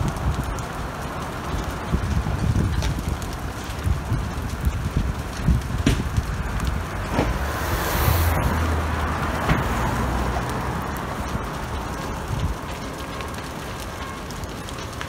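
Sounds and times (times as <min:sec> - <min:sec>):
fire popping and crackling: 0:00.0 - 0:15.0
low rumble of fire: 0:00.0 - 0:15.0.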